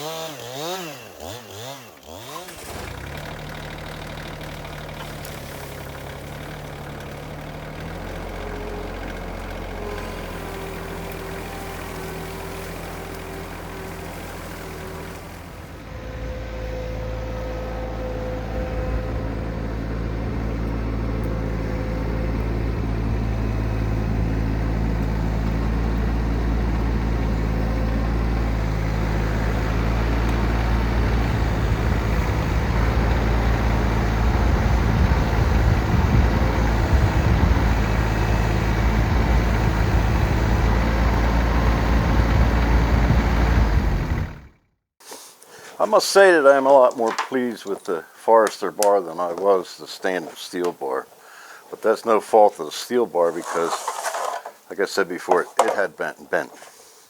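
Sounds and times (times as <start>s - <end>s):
engine humming: 0.0s - 44.8s, 45.4s - 56.6s.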